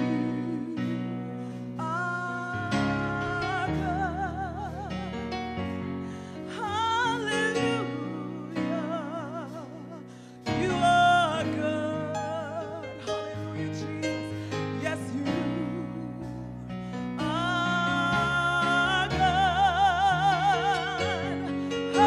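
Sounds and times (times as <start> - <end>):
woman singing gospel song: 0.0 - 5.3, 6.5 - 22.0
soft instrumental accompaniment: 0.0 - 22.0.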